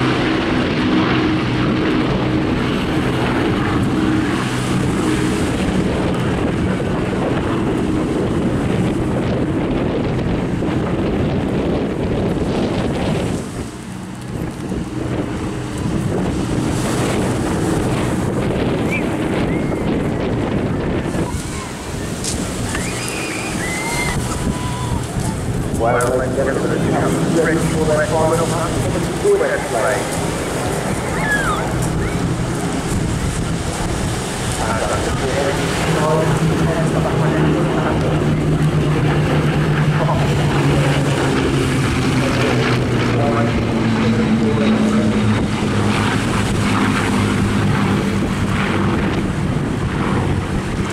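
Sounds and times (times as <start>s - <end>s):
aircraft piston engines droning: 0.0s - 50.9s
wind noise on microphone: 0.0s - 50.9s.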